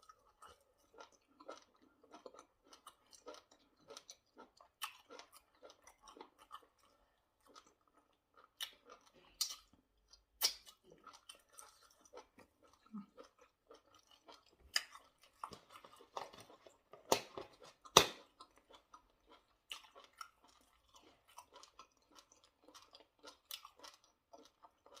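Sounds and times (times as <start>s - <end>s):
person chewing with mouth clicks: 0.0s - 25.0s.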